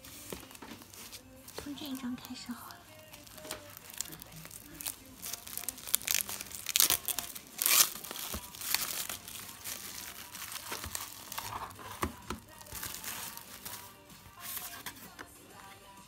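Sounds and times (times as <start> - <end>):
plastic shrink-wrap tearing and crinkling: 0.0 - 15.1.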